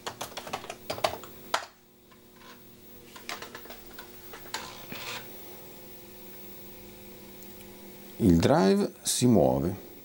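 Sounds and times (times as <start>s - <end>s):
faint disk drive motor hum: 0.0s - 10.0s.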